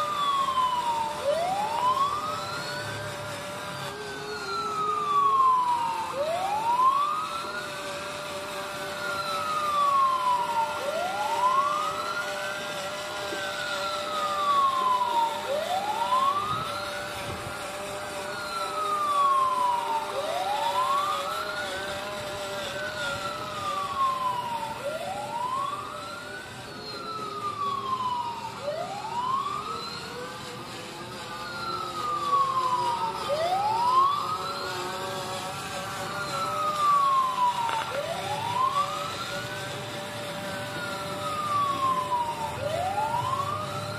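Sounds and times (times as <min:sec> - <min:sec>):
toy electronic siren wailing: 0:00.0 - 0:43.9.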